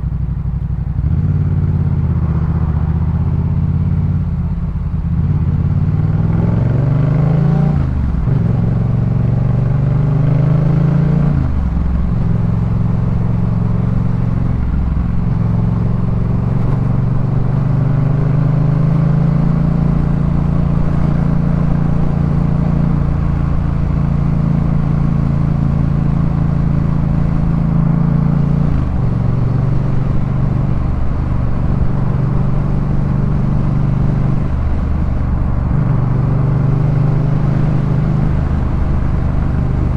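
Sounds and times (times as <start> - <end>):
motorcycle engine revving: 5.1 - 39.9.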